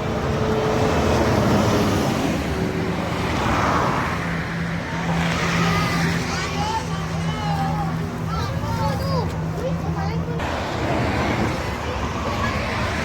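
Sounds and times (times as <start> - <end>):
fast traffic passing: 0.0 - 13.0.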